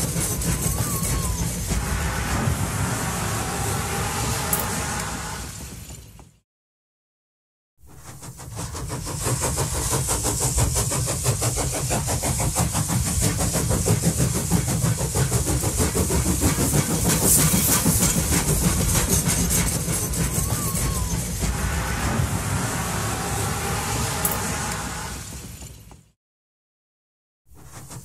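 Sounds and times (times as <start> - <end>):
moving train running noise: 0.0 - 6.4, 7.8 - 26.2, 27.5 - 28.0.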